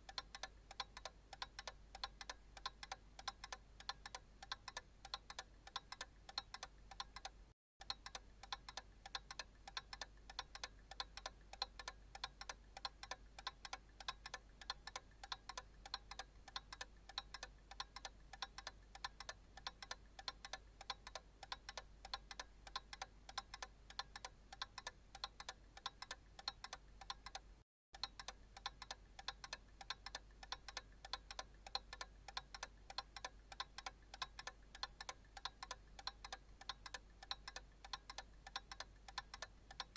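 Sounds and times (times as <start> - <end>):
analog clock ticking: 0.0 - 39.9.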